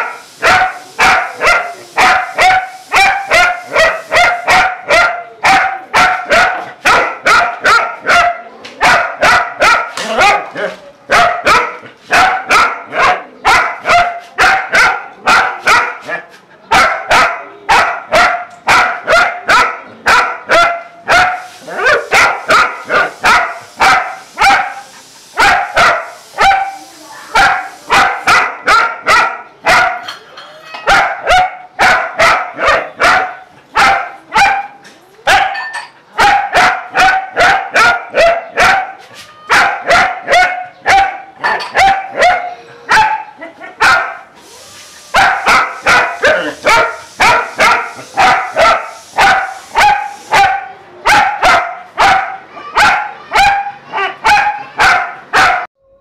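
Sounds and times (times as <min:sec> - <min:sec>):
dog barking sharply: 0:00.0 - 0:16.0, 0:16.7 - 0:24.8, 0:25.4 - 0:26.8, 0:27.4 - 0:30.1, 0:30.9 - 0:35.6, 0:36.2 - 0:44.2, 0:45.2 - 0:55.7.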